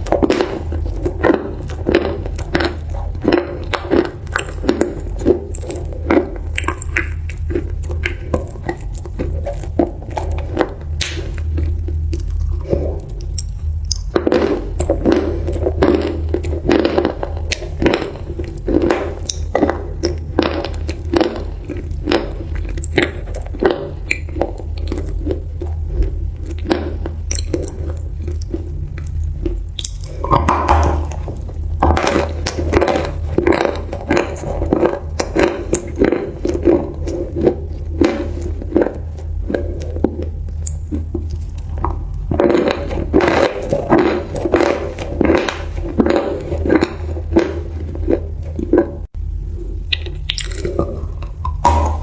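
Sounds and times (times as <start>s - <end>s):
crunchy chewing: 0.0s - 49.2s, 49.8s - 52.0s
steady low hum: 0.0s - 52.0s.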